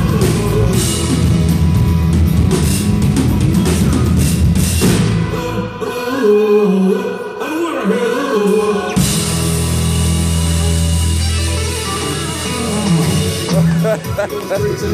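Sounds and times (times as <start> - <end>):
drums: 0.0 - 5.9, 8.4 - 14.9
bass: 0.0 - 6.4, 8.4 - 14.9
live band playing worship song: 0.0 - 14.9.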